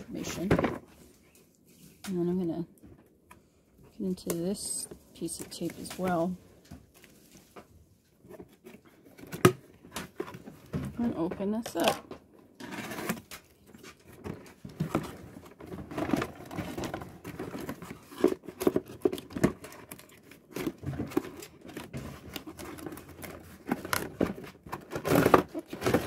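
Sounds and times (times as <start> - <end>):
cardboard scraping and crinkling: 4.1 - 12.0, 12.6 - 26.0.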